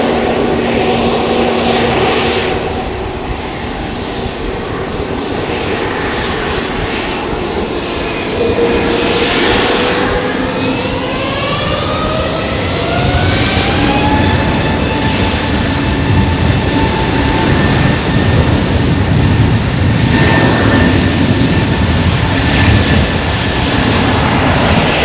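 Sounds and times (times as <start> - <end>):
airplane engines running: 0.0 - 25.0.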